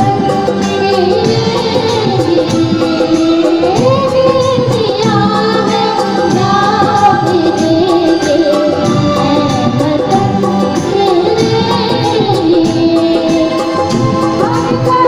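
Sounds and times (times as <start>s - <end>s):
amplified backing music: 0.0s - 15.0s
women singing into microphones: 0.0s - 15.0s.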